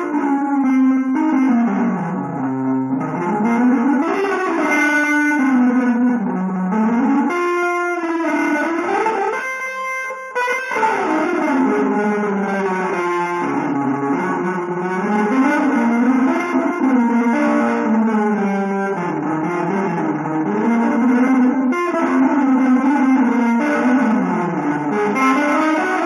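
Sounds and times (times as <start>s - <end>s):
electric guitar melody: 0.0s - 26.0s.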